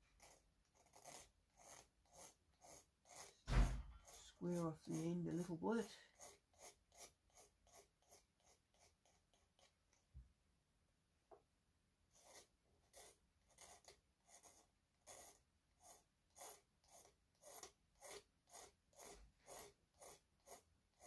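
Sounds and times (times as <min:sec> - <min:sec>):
hand file rasping on bone: 0:00.0 - 0:09.8, 0:12.1 - 0:21.0.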